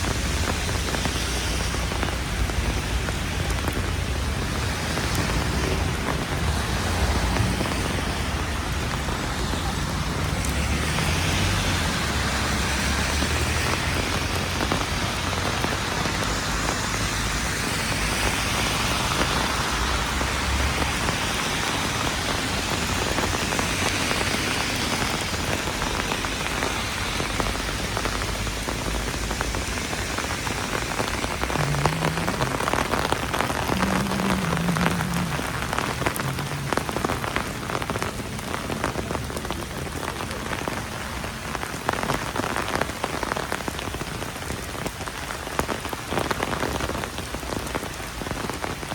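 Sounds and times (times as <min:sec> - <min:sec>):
heavy rain on hard surfaces: 0:00.0 - 0:48.9.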